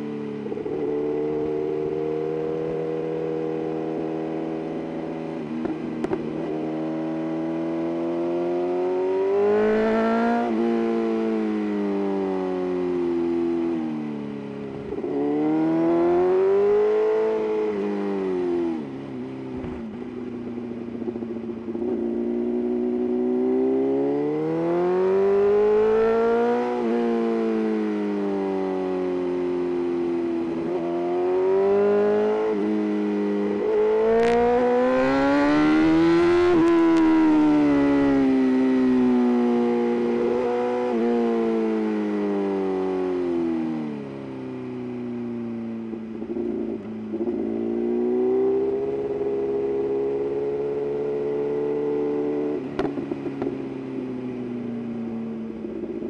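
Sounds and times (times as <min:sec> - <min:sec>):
motorcycle engine revving: 0:00.2 - 0:14.0, 0:14.6 - 0:44.7, 0:45.6 - 0:56.0.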